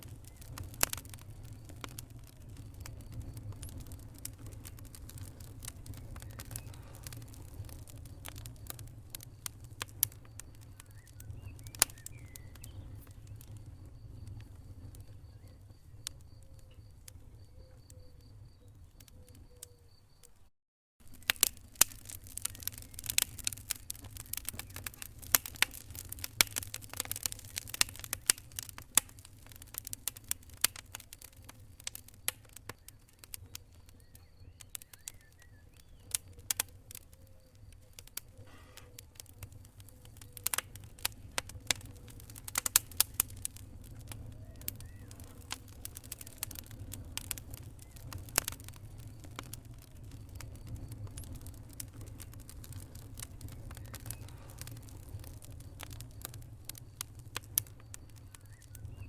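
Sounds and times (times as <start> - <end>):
wood fire crackling and popping: 0.0 - 19.8, 21.0 - 59.0.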